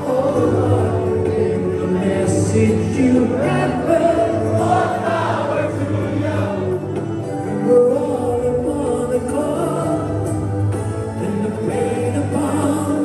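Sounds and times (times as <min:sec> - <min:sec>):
person singing: 0:00.0 - 0:13.0
rock band playing live: 0:00.0 - 0:13.0.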